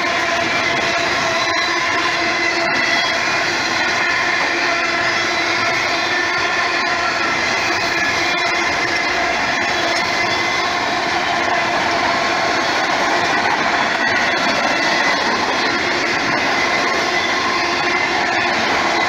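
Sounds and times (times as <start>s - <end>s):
steel wheels on rails: 0.0s - 19.0s.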